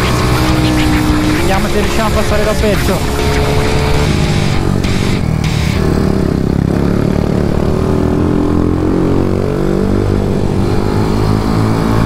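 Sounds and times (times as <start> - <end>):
small motorcycle engine revving: 0.0 - 12.0
wind and road noise: 0.0 - 12.0.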